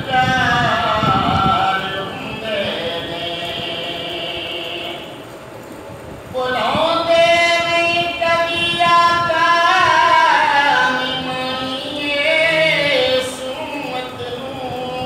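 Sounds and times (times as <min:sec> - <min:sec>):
man singing unaccompanied: 0:00.0 - 0:05.3, 0:06.3 - 0:15.0.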